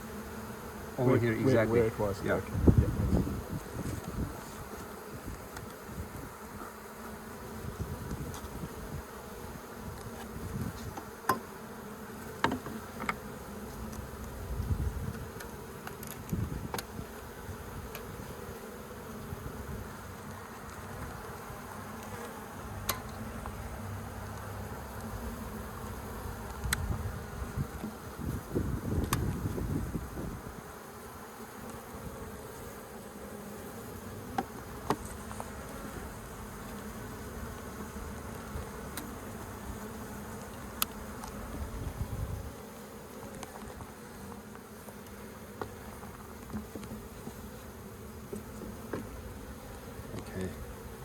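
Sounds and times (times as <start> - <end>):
honeybees buzzing: 0.0 - 51.0.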